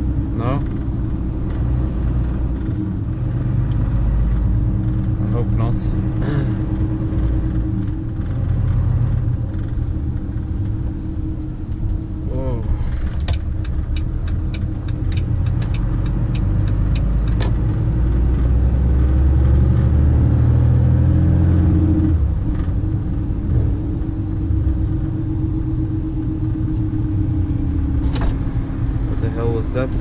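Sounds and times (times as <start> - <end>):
truck diesel engine from cab: 0.0 - 30.0.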